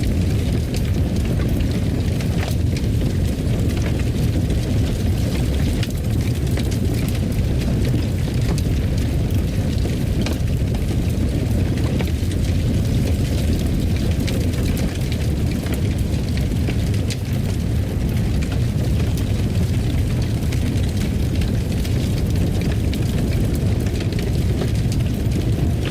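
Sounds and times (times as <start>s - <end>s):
fire crackles and pops: 0.0s - 25.9s
wood fire rumbling: 0.0s - 25.9s.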